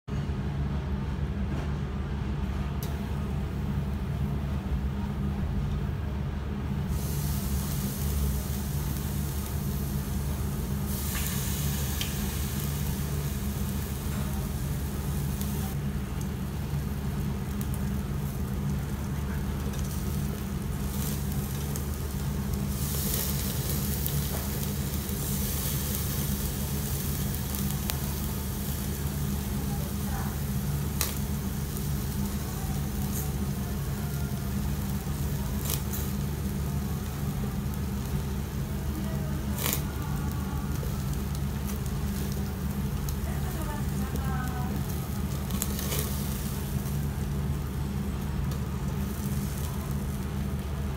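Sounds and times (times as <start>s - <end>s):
beef sizzling on a grill: 6.9s - 50.9s.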